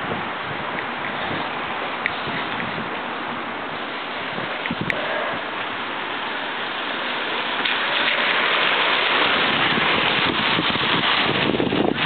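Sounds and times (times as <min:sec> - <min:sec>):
water running along a ditch: 0:00.0 - 0:12.0.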